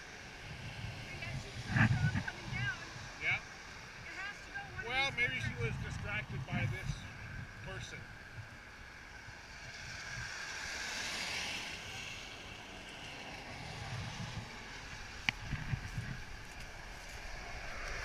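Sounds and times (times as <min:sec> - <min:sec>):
car tyres hissing on wet road: 0:00.0 - 0:05.7, 0:09.1 - 0:18.0.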